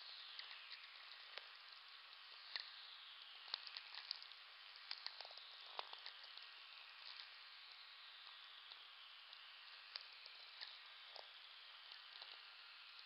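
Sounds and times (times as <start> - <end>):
faint radio hiss: 0.0 - 13.0.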